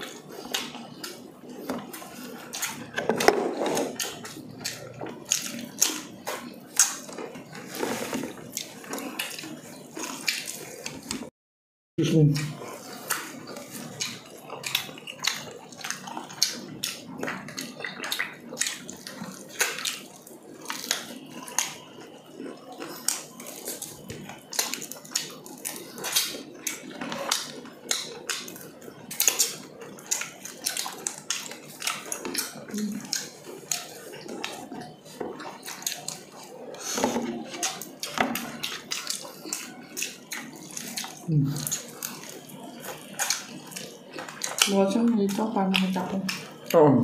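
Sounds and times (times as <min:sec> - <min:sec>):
chewing and lip-smacking: 0:00.0 - 0:11.3, 0:12.3 - 0:46.8.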